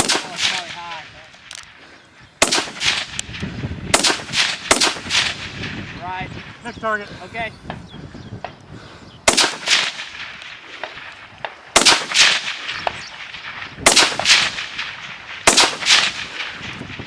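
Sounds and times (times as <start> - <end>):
rifle shots echoing: 0.0 - 1.8, 2.4 - 6.6, 9.3 - 17.0.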